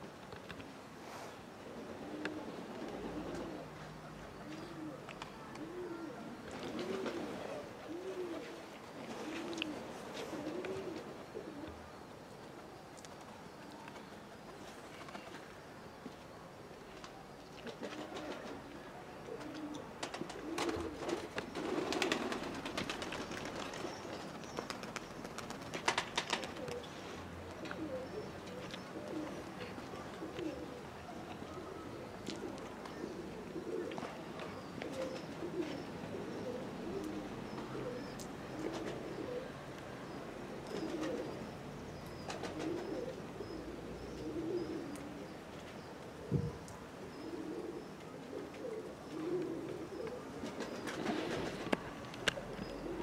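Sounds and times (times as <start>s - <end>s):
pigeons cooing: 1.6s - 12.0s, 17.6s - 53.0s.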